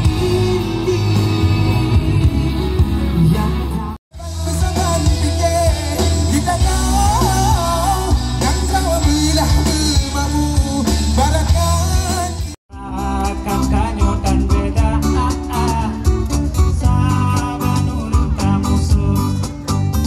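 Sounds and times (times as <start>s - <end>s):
band strumming acoustic guitars: 0.0s - 20.0s
live rock band with singer: 0.0s - 20.0s.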